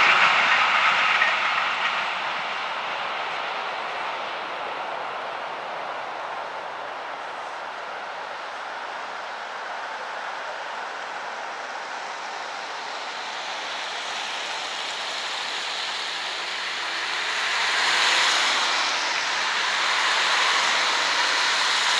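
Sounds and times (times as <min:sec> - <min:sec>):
tyres hissing on wet road: 0:00.0 - 0:21.9.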